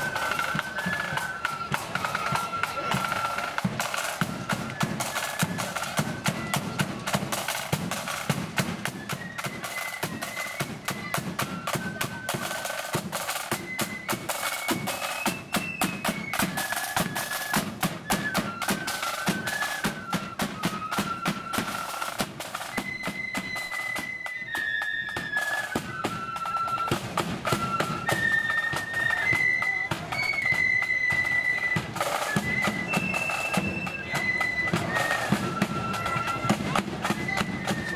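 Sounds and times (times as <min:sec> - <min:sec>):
flute melody: 0:00.0 - 0:37.9.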